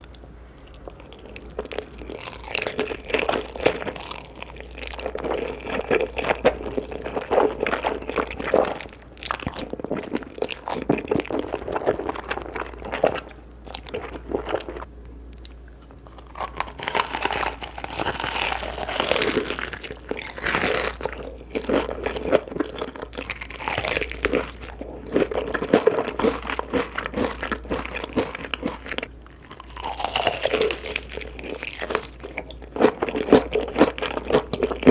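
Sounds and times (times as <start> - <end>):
crunchy bites and chewing: 0.6 - 14.8, 15.4 - 34.9.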